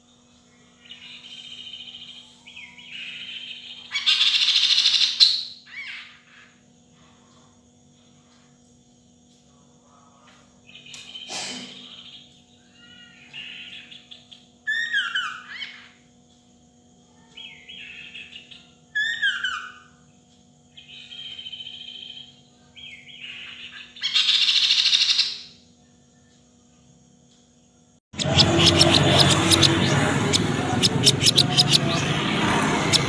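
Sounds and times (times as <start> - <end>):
bird singing: 0.0 - 7.8, 9.6 - 33.0.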